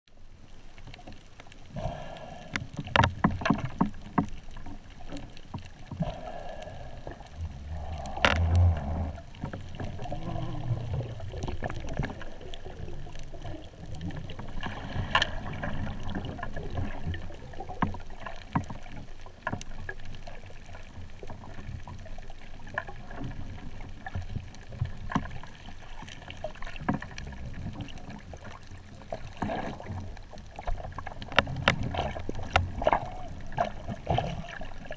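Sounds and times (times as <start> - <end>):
muffled underwater water movement: 0.1 - 34.9.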